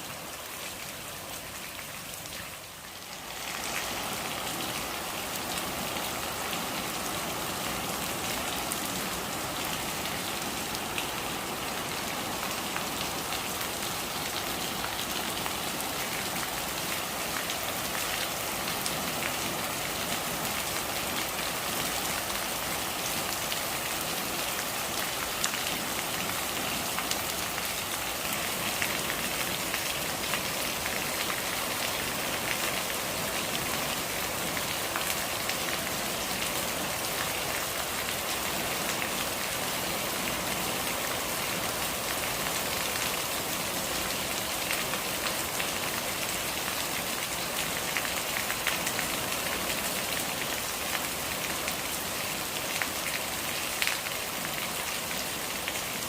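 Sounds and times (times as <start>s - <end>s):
rainwater gurgling: 0.0s - 55.9s
rain falling: 0.0s - 56.0s.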